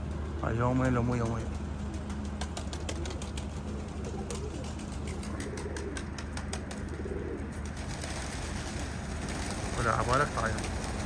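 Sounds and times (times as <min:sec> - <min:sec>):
pigeons cooing: 0:00.0 - 0:11.0
steady low hum: 0:00.0 - 0:11.0.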